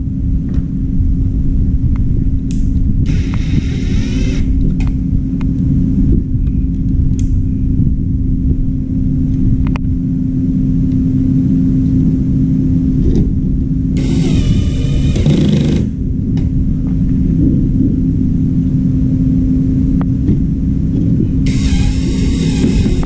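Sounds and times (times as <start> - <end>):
mechanical hum and rumble: 0.0 - 23.0.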